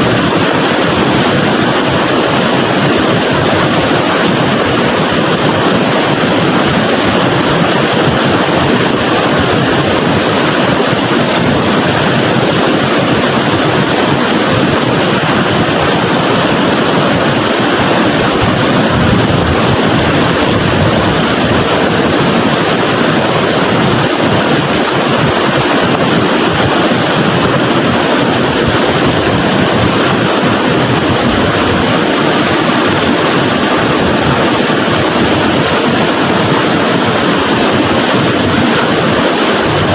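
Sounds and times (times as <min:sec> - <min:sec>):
floodwater rushing in a river: 0:00.0 - 0:39.9.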